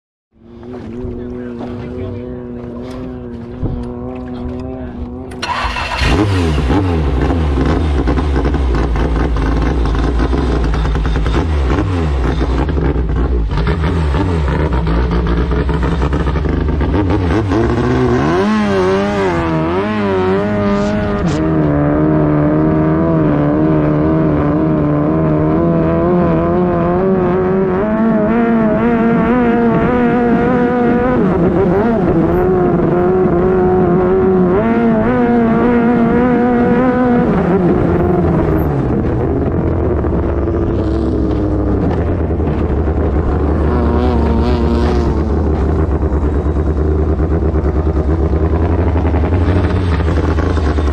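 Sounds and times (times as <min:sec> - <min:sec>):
boat engine revving: 0:00.4 - 0:50.9.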